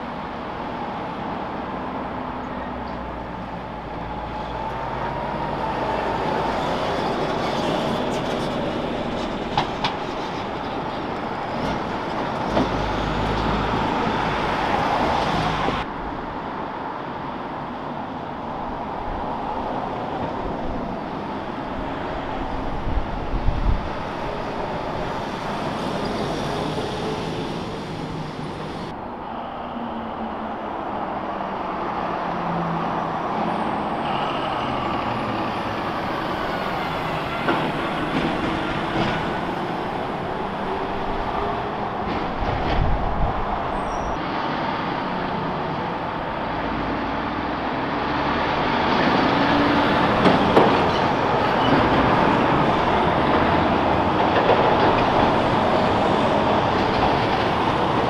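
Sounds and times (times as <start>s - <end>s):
heavy road traffic: 0.0s - 58.0s.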